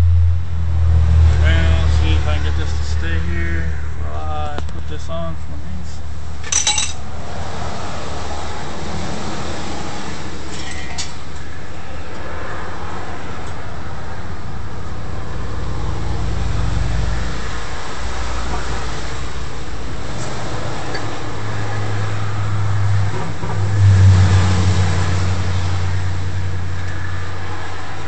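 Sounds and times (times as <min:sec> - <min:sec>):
low drone with hiss: 0:00.0 - 0:28.0.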